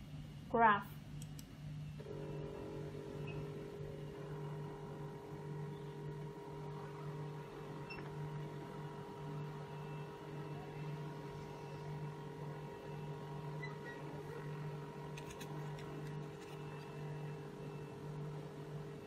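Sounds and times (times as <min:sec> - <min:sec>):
printer paper-feed whine: 0:02.0 - 0:19.0.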